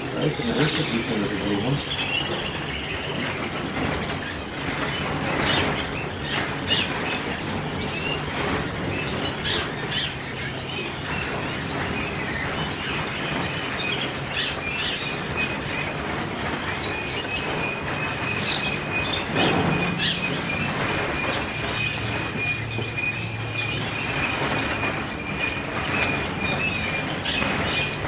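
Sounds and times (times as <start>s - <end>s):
canaries chirping and twittering: 0.0s - 28.0s
steady background hum: 0.0s - 28.0s.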